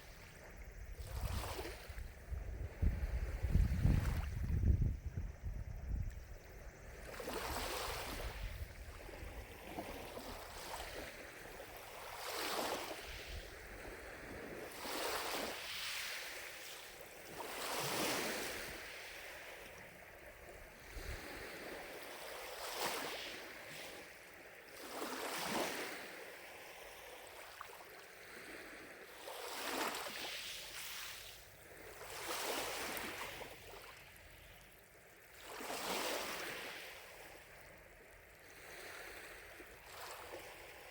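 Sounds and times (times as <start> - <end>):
lake waves lapping against shore: 0.0 - 40.9.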